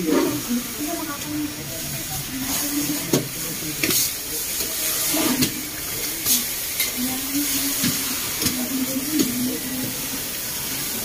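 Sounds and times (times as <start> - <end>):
faint voices: 0.0 - 11.0
water hose hissing on fire: 0.0 - 11.0.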